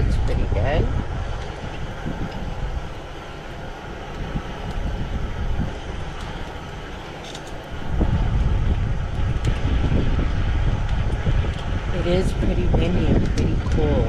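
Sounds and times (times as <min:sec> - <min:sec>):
wind buffeting the microphone: 0:00.0 - 0:14.0.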